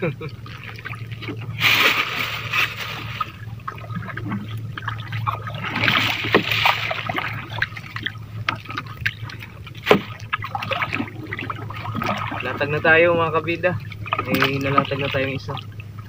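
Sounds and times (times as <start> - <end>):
low hum: 0.0 - 16.0
water splashing around boat: 0.0 - 16.0.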